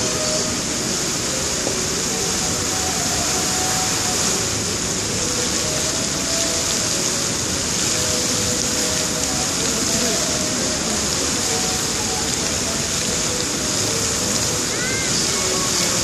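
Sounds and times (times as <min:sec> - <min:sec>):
fountain jets splashing: 0:00.0 - 0:16.0.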